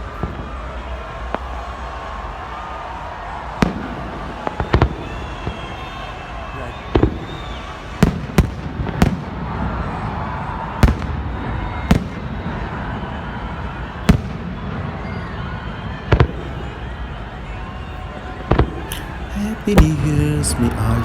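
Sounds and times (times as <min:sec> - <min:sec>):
fireworks sharp bangs: 0:00.0 - 0:21.0.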